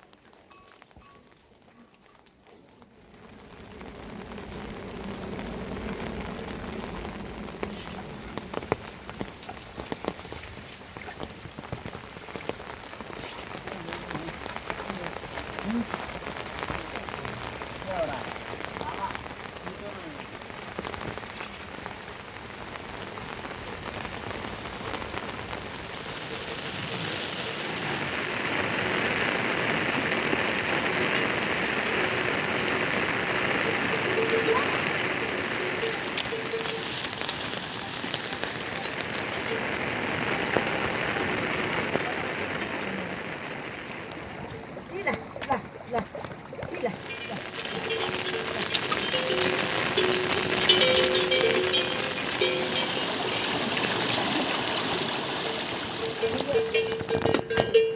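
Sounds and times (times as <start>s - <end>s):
rain falling: 0.0s - 57.9s
raindrops ticking: 0.0s - 57.9s.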